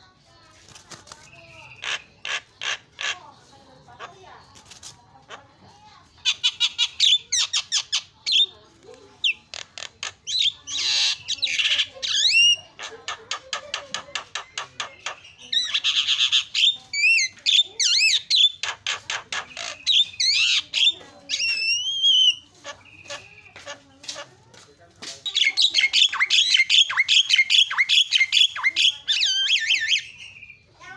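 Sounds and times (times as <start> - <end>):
myna bird singing: 0.1 - 30.9.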